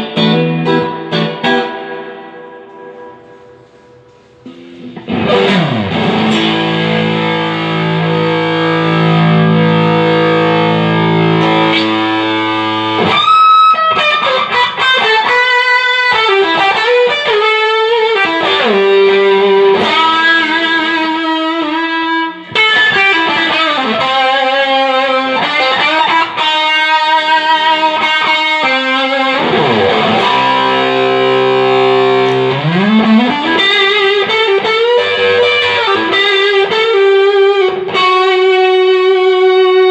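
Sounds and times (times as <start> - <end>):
electric guitar through amp: 0.0 - 39.9.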